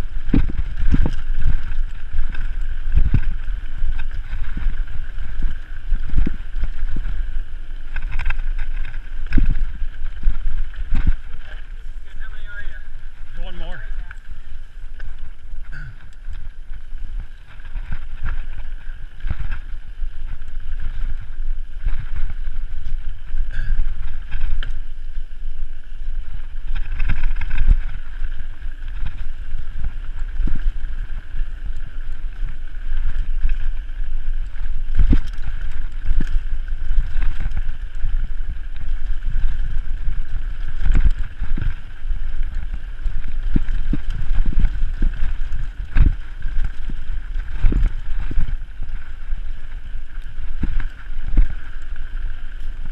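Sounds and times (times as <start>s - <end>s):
bike knocking and rattling: 0.0s - 52.9s
bike tyres rumbling on dirt: 0.0s - 52.9s
wind buffeting microphone: 0.0s - 52.9s.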